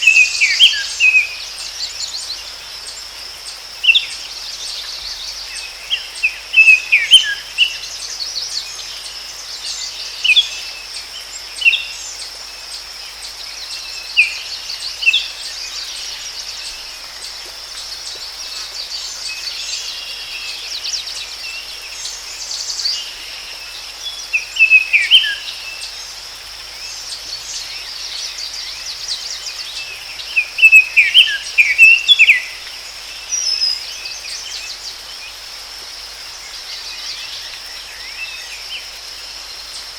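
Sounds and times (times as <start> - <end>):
faint hiss: 0.0 - 39.9
high insect drone: 0.0 - 39.9
songbirds chirping: 0.0 - 39.9.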